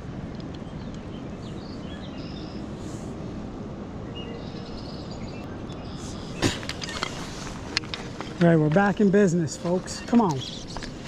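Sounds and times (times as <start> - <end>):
outdoor background rush: 0.0 - 11.0
small birds chirping: 0.4 - 3.1, 4.0 - 11.0.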